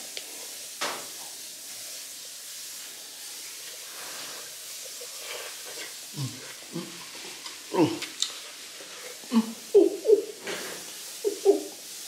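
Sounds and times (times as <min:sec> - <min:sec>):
omelette sizzling in frying pan: 0:00.0 - 0:12.0.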